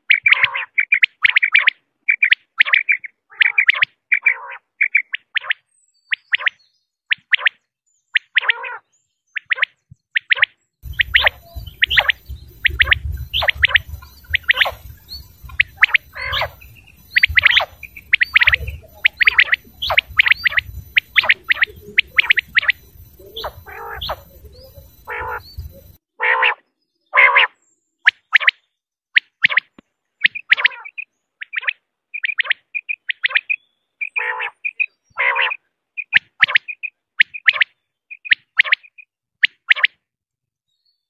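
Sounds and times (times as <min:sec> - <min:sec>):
quail calling: 0:00.0 - 0:07.6, 0:08.2 - 0:28.6, 0:29.2 - 0:40.0.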